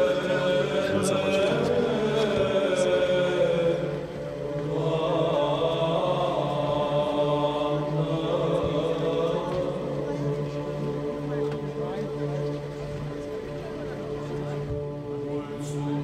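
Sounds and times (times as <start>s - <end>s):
voices chanting long held notes: 0.0s - 16.0s.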